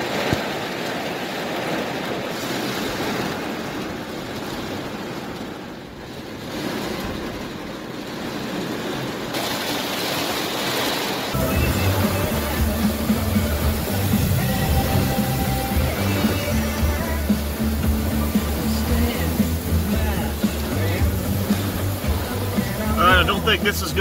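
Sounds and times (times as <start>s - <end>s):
heavy rain on car roof: 0.0s - 24.0s.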